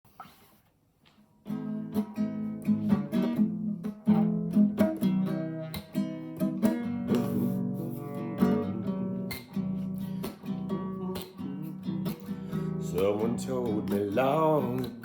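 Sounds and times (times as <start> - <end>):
acoustic guitar strumming: 1.4 - 15.0.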